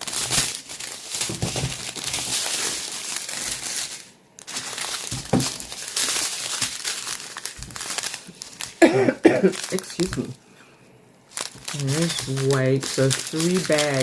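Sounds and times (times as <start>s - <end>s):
plastic bags crinkling: 0.0s - 10.4s, 11.3s - 14.0s.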